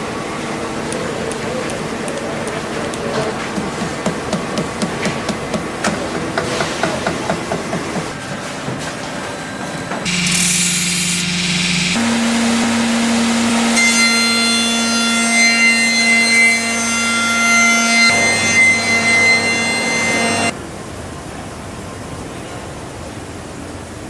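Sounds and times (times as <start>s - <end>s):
workshop machine whining and grinding: 0.0s - 20.6s.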